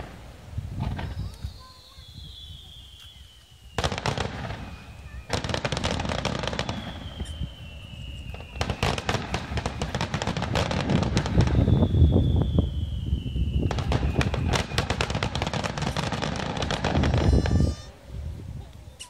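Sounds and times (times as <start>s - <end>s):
fireworks bursts and crackles: 0.0s - 19.0s
high descending whistle: 1.0s - 9.9s, 11.2s - 18.0s.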